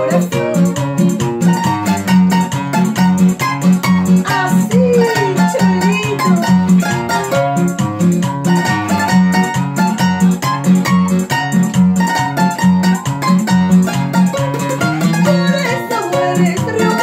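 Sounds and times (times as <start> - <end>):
plucked guitar melody: 0.0 - 17.0
strummed guitar with bass beat: 0.0 - 17.0.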